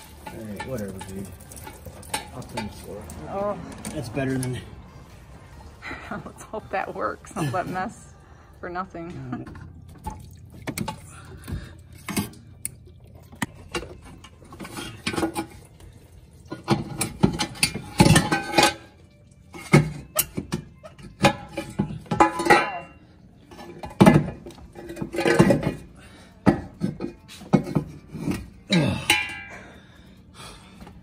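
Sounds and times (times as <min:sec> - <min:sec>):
metallic clanks and scraping: 0:00.0 - 0:05.6, 0:09.0 - 0:29.7.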